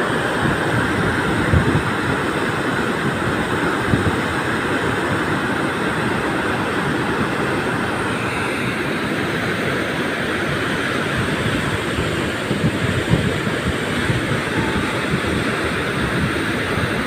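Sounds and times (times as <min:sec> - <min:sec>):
wind buffeting microphone: 0:00.0 - 0:09.6, 0:10.3 - 0:17.0
white water rushing: 0:00.0 - 0:17.0.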